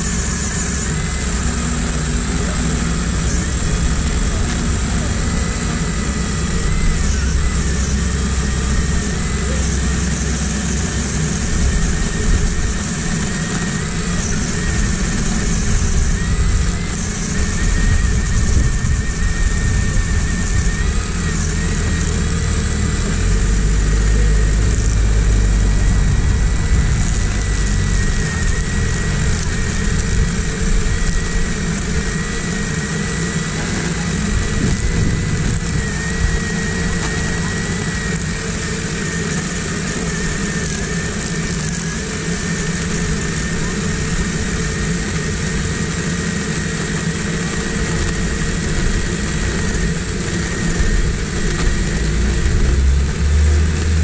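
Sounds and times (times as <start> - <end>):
electric chainsaw cutting wood: 0.0 - 54.0.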